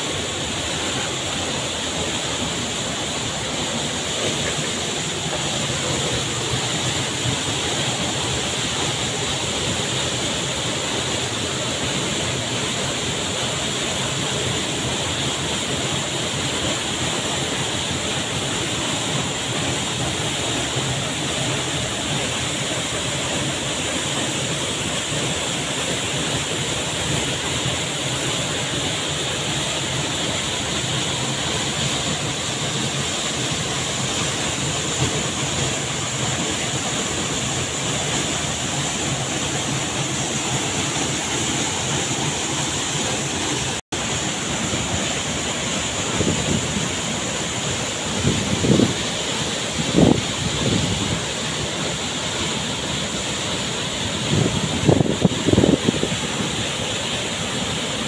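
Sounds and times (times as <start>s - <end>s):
waterfall rushing into pool: 0.0s - 58.0s.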